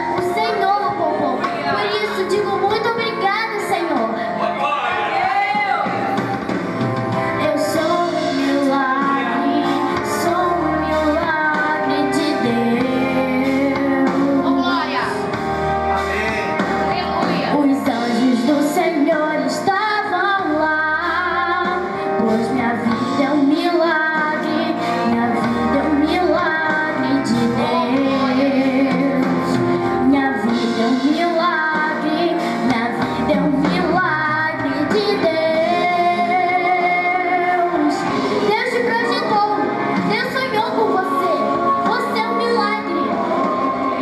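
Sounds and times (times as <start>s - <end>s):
girl singing into a microphone: 0.0s - 4.4s, 7.3s - 15.0s, 17.4s - 43.7s
instrumental accompaniment: 0.0s - 44.0s.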